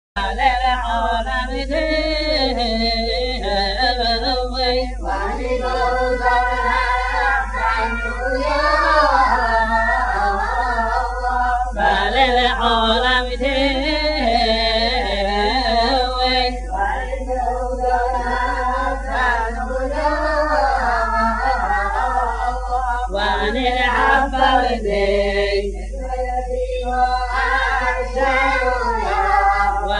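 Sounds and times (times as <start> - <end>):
man singing ornamented chant: 0.2 - 29.9
steady low hum: 0.2 - 29.9.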